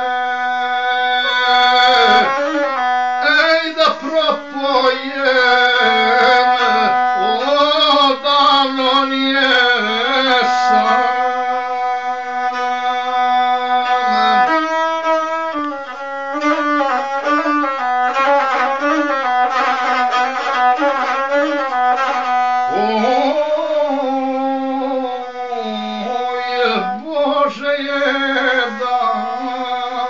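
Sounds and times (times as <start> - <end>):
bowed single-string fiddle melody: 0.0 - 30.0.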